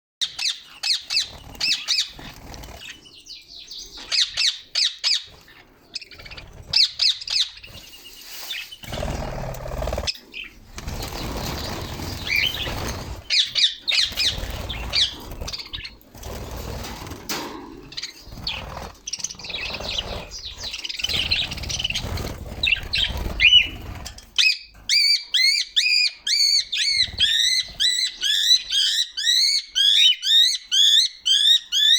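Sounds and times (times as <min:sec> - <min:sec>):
budgerigars chirping: 0:00.2 - 0:16.0, 0:17.9 - 0:31.9.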